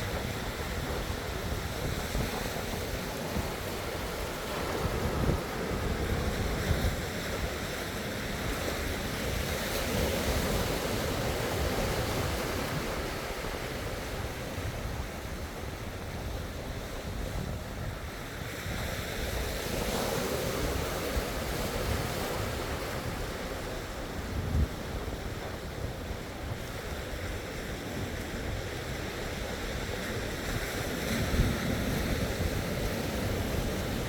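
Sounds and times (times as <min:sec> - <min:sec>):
sea waves washing on shore: 0:00.0 - 0:34.0
wind rumbling on microphone: 0:00.0 - 0:34.0.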